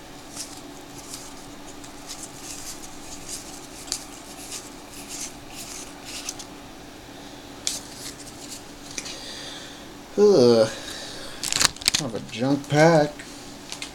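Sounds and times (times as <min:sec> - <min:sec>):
faint steady hum: 0:00.0 - 0:13.9.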